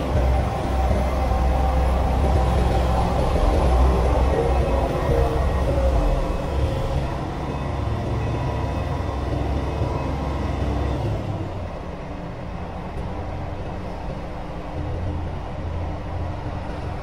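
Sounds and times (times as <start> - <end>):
excavator engine rumbling: 0.0 - 17.0.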